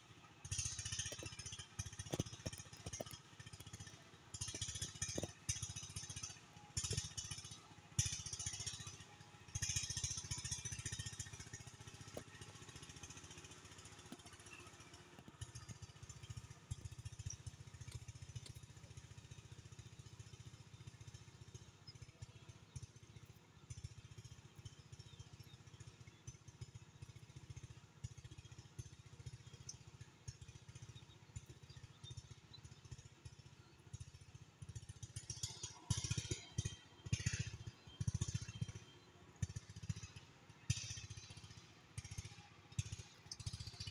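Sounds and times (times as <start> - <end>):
small engine puttering: 0.0 - 43.9.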